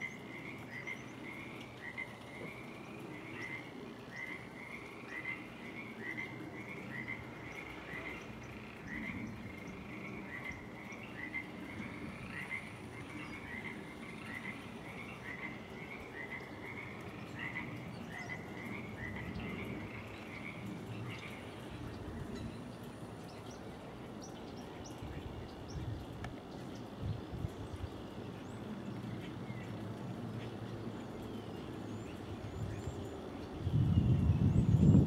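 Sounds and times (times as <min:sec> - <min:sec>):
frogs croaking: 0:00.0 - 0:35.0.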